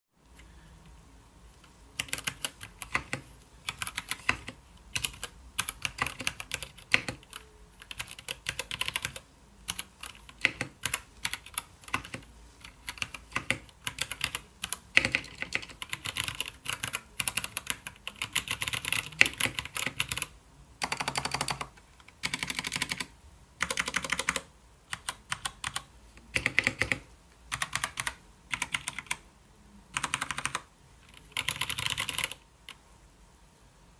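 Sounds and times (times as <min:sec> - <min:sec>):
mechanical keyboard typing: 0:02.0 - 0:29.2, 0:29.9 - 0:32.8.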